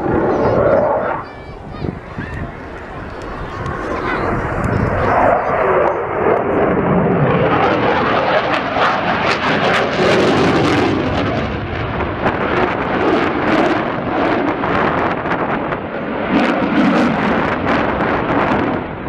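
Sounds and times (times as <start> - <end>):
jet roaring overhead: 0.0 - 19.0.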